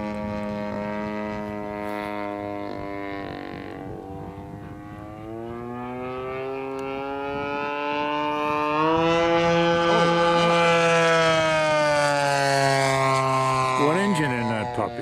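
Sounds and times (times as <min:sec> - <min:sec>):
model plane engine droning: 0:00.0 - 0:15.0.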